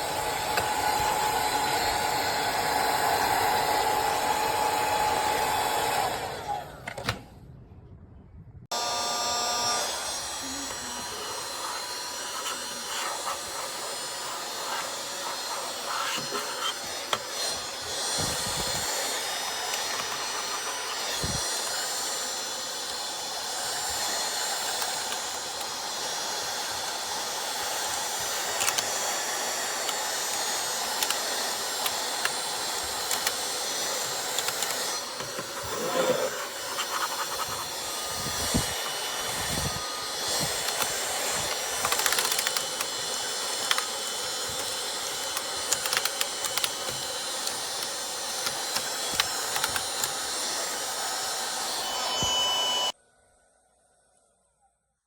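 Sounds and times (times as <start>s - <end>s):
mini vacuum cleaner running: 0.0s - 7.2s, 8.7s - 53.0s.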